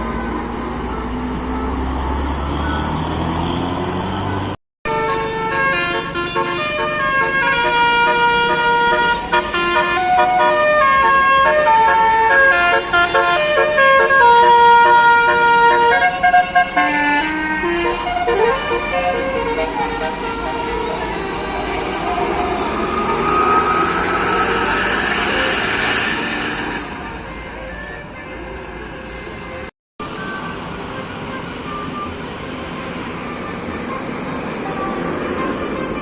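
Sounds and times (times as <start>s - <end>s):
bus engine revving: 0.0s - 36.0s
multi-tone musical bus horn: 0.0s - 36.0s.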